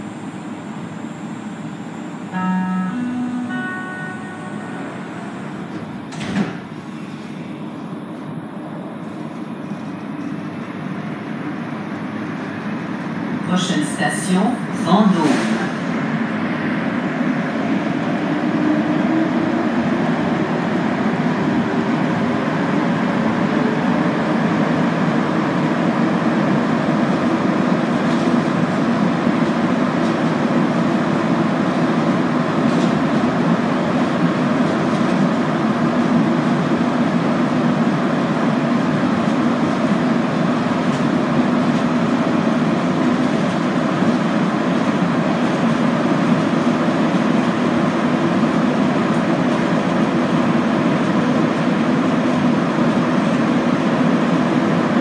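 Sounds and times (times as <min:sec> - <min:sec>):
subway train rumble and hum: 0:00.0 - 0:55.0.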